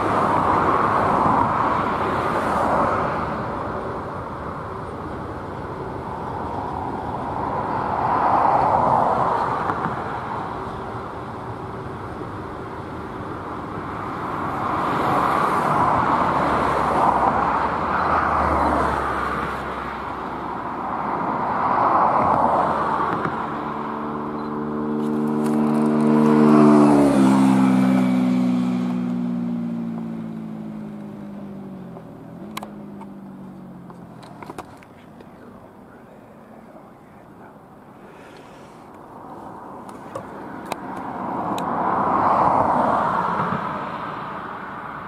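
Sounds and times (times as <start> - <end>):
passing vehicle hum: 0.0 - 45.0.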